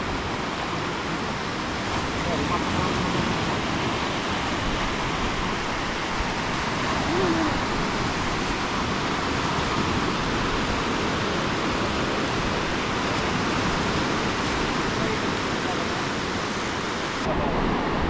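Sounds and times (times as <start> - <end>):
sea surf washing on beach: 0.0 - 18.0.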